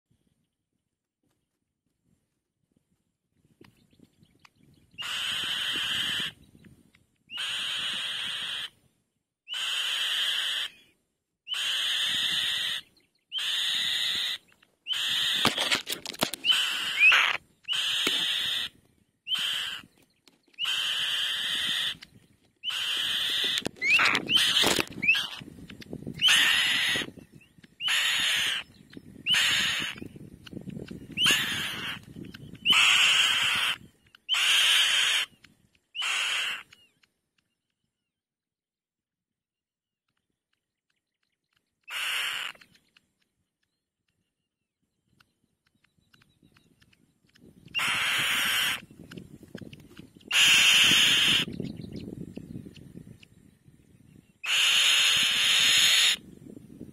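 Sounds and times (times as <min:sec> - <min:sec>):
birds of prey calling: 0:03.7 - 0:38.1, 0:40.1 - 0:56.9.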